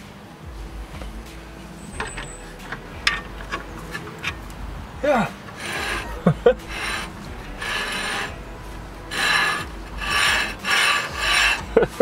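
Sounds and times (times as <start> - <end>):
plastic scraping against metal: 2.0 - 12.0.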